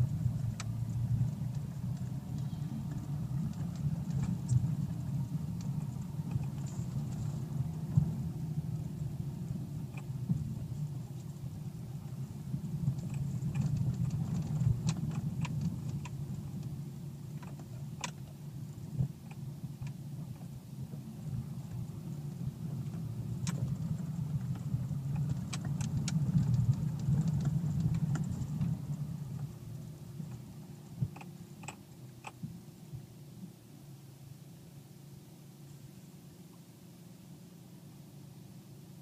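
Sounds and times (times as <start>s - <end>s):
sharp clicks and rattles: 0.0s - 9.1s, 9.7s - 32.5s
diesel engine running at low revs: 0.0s - 39.0s.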